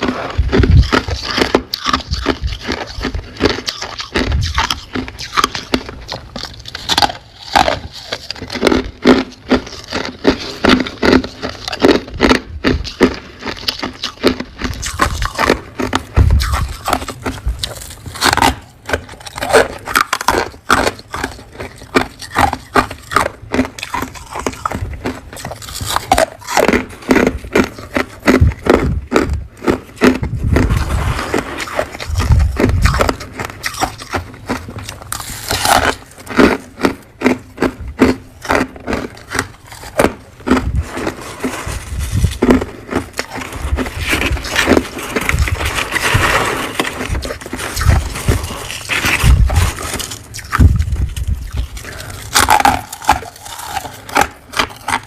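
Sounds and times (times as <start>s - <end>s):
chewing crunchy frost: 0.0s - 55.0s.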